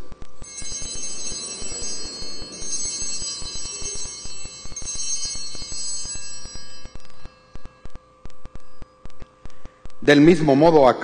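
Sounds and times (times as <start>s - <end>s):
small high-pitched bells ringing: 0.4s - 9.3s.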